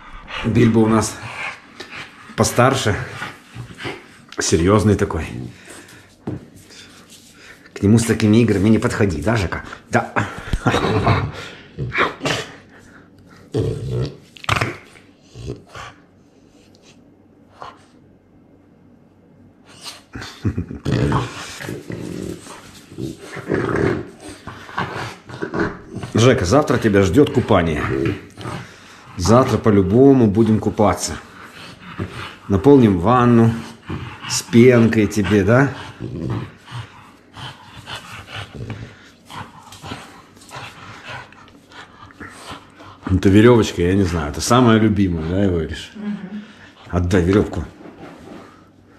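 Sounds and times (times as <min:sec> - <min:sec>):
dog play-growling: 0:00.0 - 0:07.4, 0:08.0 - 0:16.6, 0:19.7 - 0:48.8.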